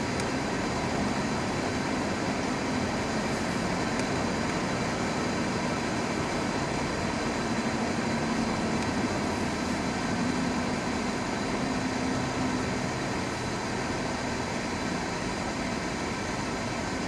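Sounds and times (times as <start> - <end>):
car engine hum: 0.0 - 17.0
tyre road noise: 0.0 - 17.0.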